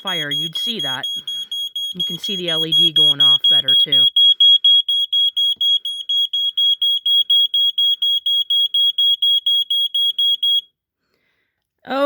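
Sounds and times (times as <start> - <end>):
smoke alarm pulsing horn: 0.0 - 10.6.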